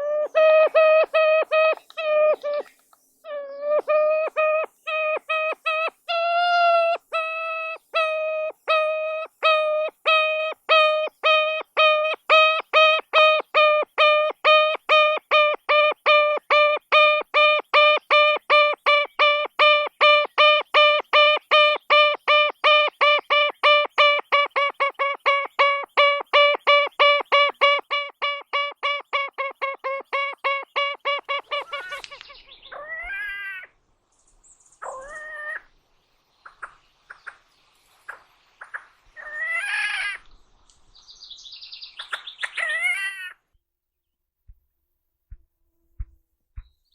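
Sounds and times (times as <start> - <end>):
bird calling: 0.0 - 33.7, 34.4 - 35.8, 36.4 - 40.3, 41.4 - 43.4.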